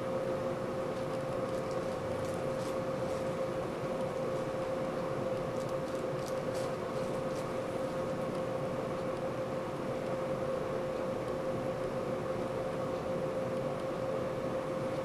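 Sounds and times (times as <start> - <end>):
machine hum with steady tone: 0.0 - 15.0.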